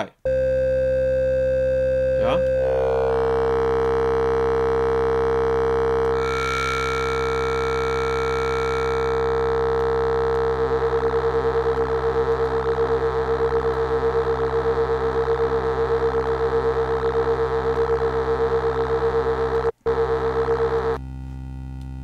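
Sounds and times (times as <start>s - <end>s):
synthesizer droning note: 0.3s - 22.0s.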